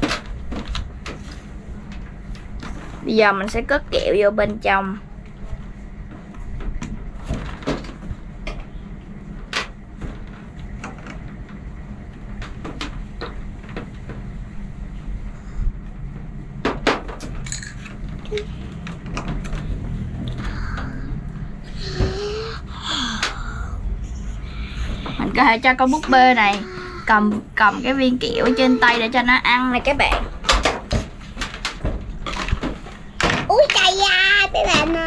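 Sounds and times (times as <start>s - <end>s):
low hum: 0.0s - 33.5s.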